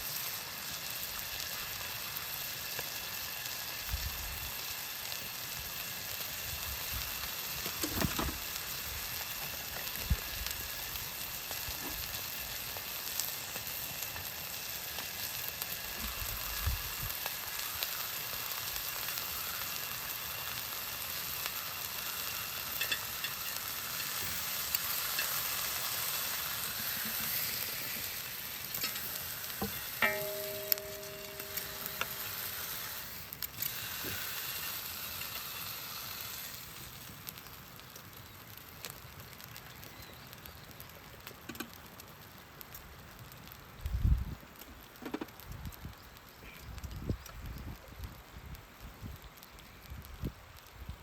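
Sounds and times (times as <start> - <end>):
meat sizzling: 0.0 - 51.0.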